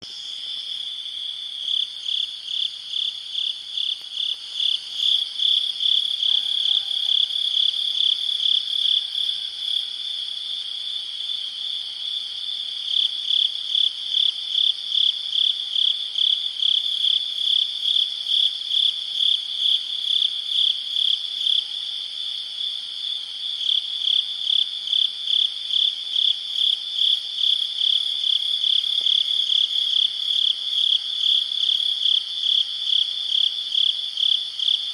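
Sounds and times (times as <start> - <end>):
crickets chirping: 0.0 - 34.9
faint high insect calls: 0.0 - 34.9.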